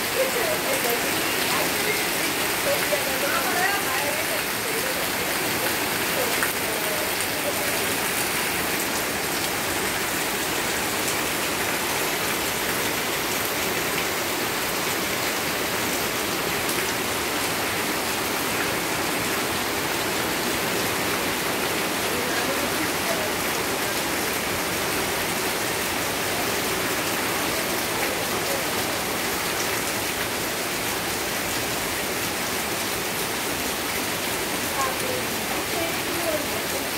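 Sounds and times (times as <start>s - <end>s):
heavy rain on pavement and shrubs: 0.0s - 36.9s.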